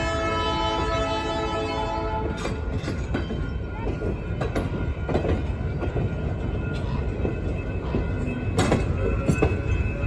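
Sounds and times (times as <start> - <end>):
train wheels rolling on rails: 0.0 - 10.0.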